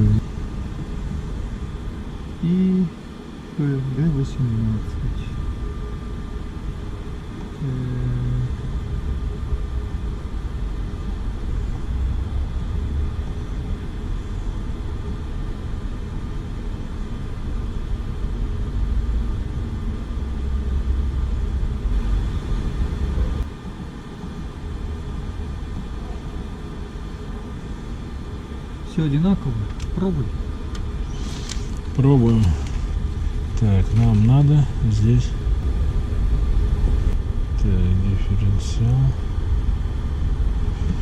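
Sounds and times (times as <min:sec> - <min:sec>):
machinery rumble with high whine: 0:00.0 - 0:41.0.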